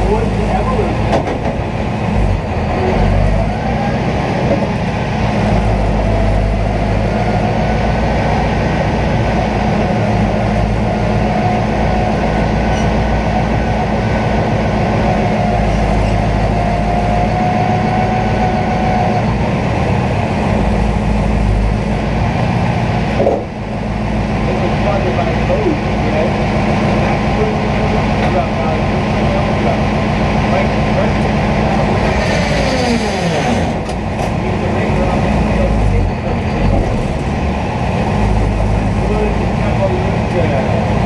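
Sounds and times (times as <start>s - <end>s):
diesel truck engine running: 0.0s - 41.0s.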